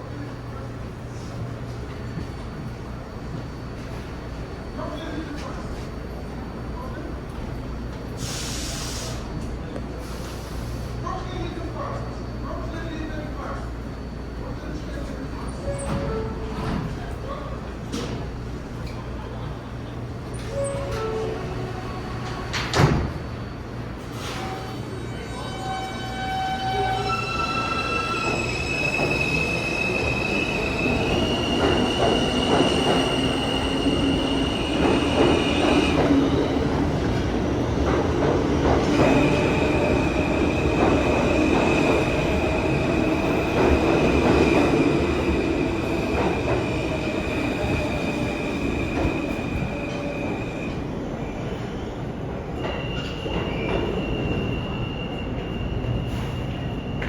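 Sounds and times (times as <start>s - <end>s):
subway train rumbling on rails: 0.0s - 57.0s.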